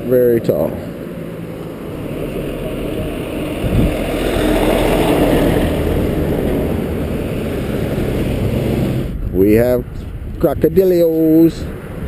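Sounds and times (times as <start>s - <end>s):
truck passing: 0.0s - 10.4s
highway traffic passing: 0.0s - 12.0s.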